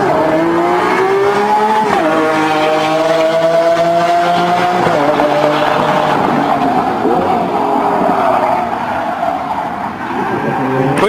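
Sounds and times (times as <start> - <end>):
car engine accelerating through gears: 0.0 - 11.0.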